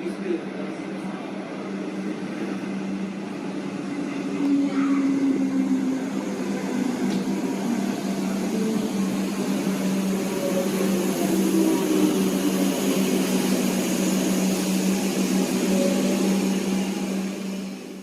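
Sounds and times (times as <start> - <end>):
electric train running: 0.4 - 18.0.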